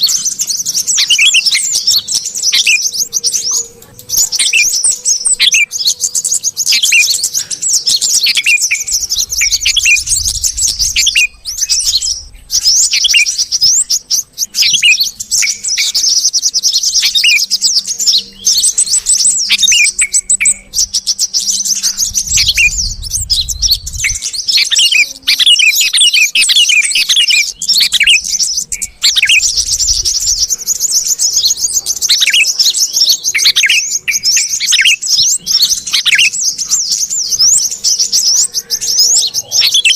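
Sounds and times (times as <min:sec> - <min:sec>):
bulbuls chattering and chirping: 0:00.0 - 0:39.9.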